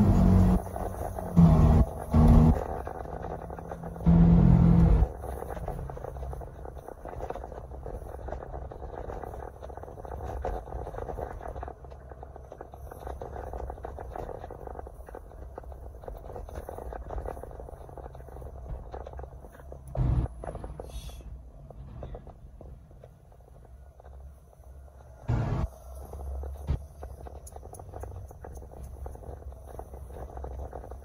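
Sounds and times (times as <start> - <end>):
car road noise rumble: 0.0 - 31.0.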